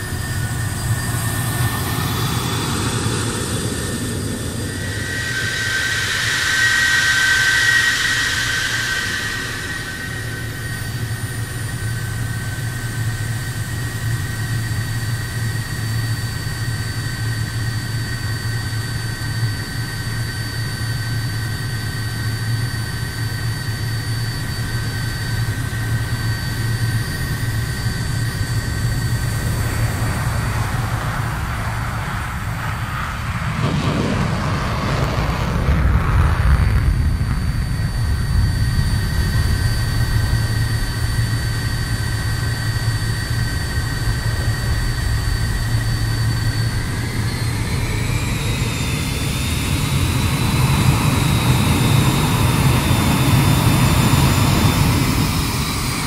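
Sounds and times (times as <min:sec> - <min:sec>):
jet engines high whine: 0:00.0 - 0:56.0.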